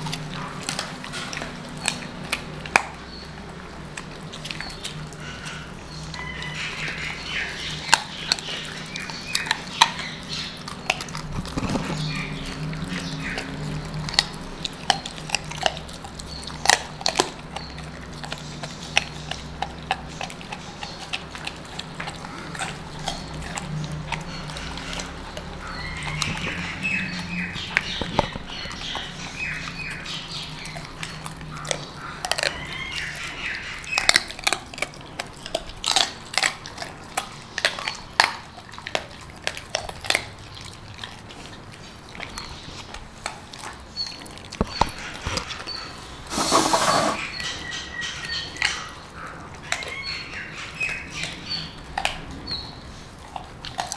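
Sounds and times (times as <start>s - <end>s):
dog crunching bones: 0.0s - 46.4s, 47.2s - 53.9s
wet chewing: 0.0s - 53.9s.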